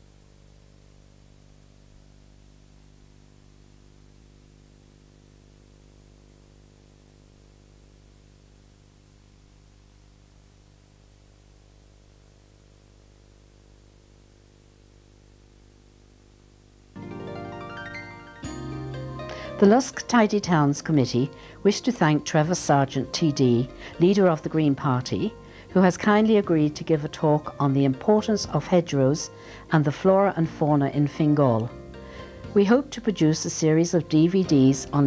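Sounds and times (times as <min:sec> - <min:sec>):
low electrical hum: 0:00.0 - 0:35.0
tape hiss: 0:00.0 - 0:35.0.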